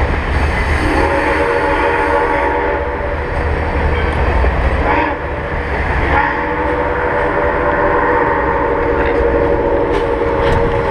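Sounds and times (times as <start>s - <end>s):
train cars rumbling over bridge: 0.0s - 10.9s.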